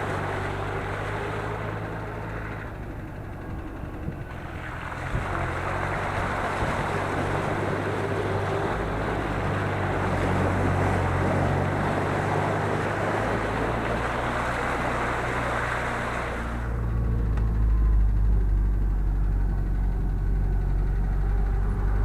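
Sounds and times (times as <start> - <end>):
rushing water: 0.0 - 18.0
motorboat engine hum: 0.0 - 22.0
wind: 0.0 - 22.0.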